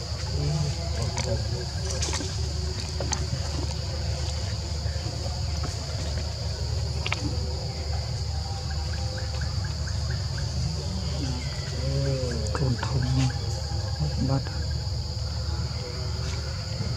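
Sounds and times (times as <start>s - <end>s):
high-pitched insect drone: 0.0s - 16.9s.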